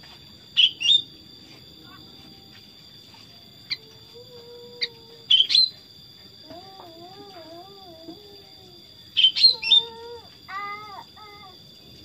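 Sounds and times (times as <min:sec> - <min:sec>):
bird chirping: 0:00.5 - 0:07.6, 0:08.3 - 0:12.0.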